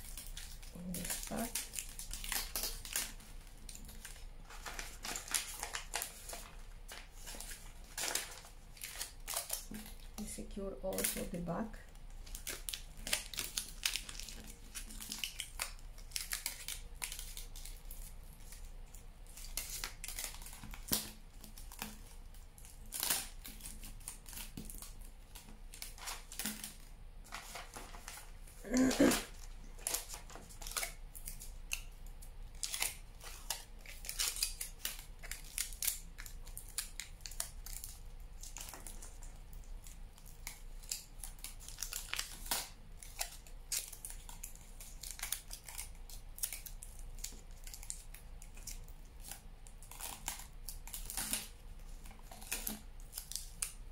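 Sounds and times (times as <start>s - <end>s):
aluminium foil crinkling: 0.0s - 53.9s.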